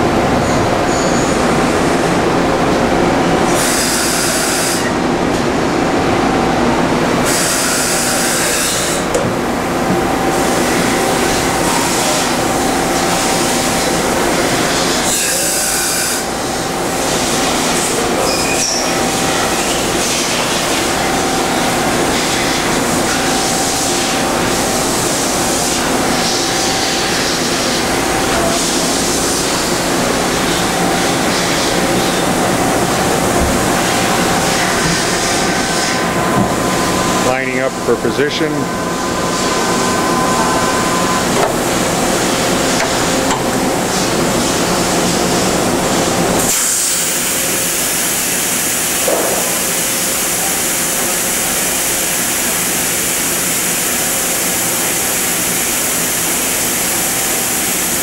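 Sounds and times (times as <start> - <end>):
machine mechanical hum: 0.0 - 58.0.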